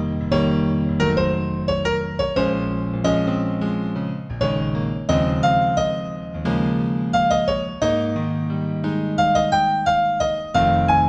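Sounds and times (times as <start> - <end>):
slow solo piano: 0.0 - 11.0.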